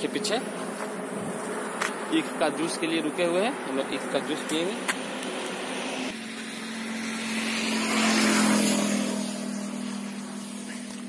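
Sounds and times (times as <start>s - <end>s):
vehicle passing: 0.0s - 11.0s.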